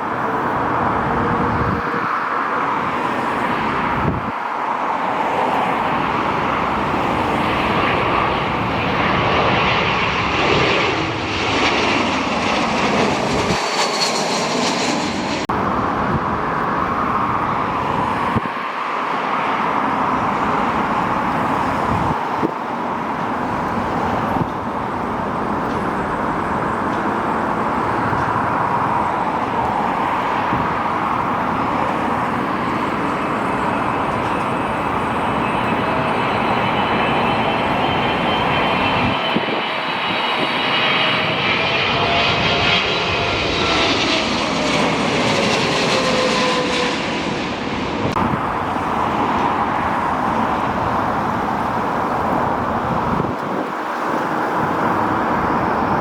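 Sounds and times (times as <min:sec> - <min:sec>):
jet airliner engines passing: 0:00.0 - 0:56.0.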